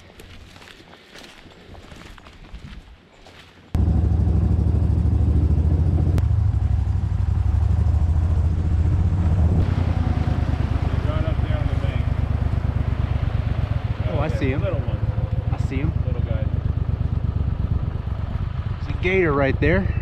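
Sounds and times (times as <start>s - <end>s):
boat motor running: 3.8s - 20.0s.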